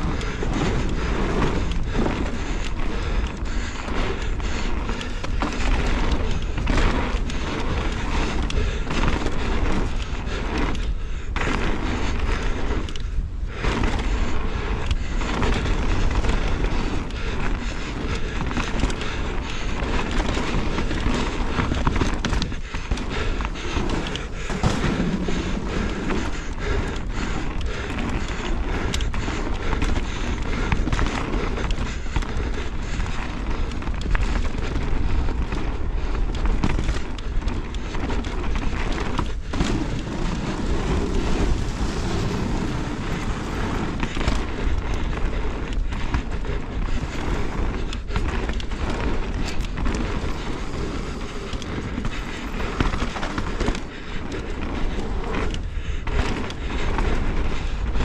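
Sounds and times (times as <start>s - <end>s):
bike rattling: 0.0s - 58.0s
bike tyres rumbling on gravel: 0.0s - 58.0s
stones clicking under wheels: 0.0s - 58.0s.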